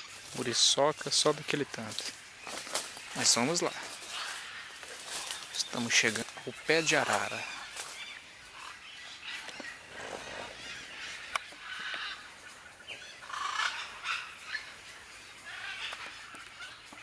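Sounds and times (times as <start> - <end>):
parrots squawking: 1.3 - 17.0.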